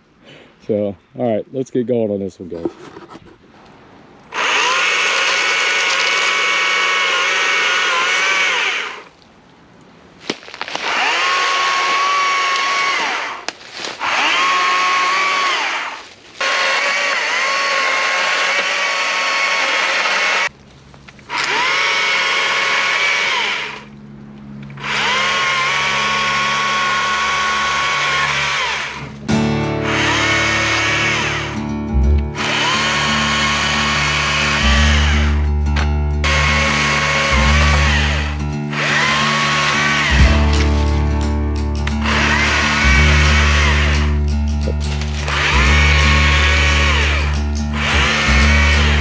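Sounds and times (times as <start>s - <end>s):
battery chainsaw cutting brush: 4.3s - 9.1s, 10.6s - 20.5s, 21.3s - 23.9s, 24.8s - 49.0s.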